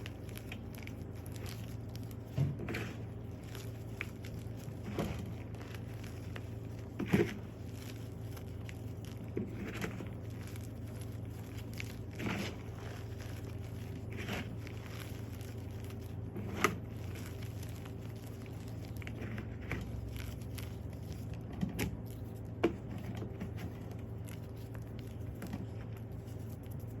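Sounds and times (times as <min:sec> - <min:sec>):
chalk blocks crunching: 0:00.0 - 0:27.0.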